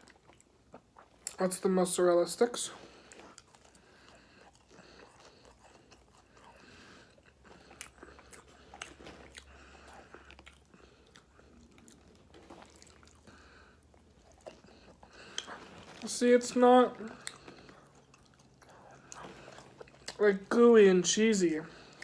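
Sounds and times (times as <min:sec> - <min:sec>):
biting and chewing: 0:00.0 - 0:01.7, 0:02.4 - 0:22.0.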